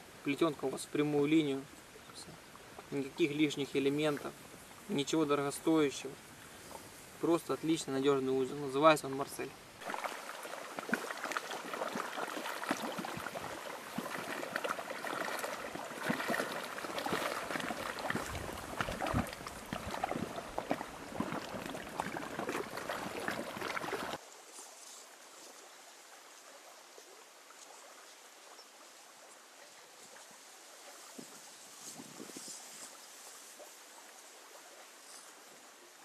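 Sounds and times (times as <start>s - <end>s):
faint steady hiss: 0.0s - 36.0s
river water lapping and trickling: 0.0s - 36.0s.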